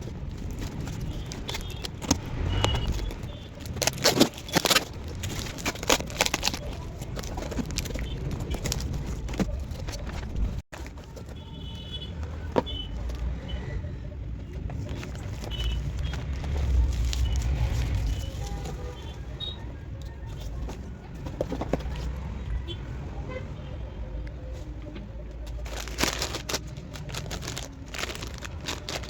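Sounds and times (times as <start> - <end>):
clicks and rustles of small items: 0.0 - 22.6, 24.2 - 29.0.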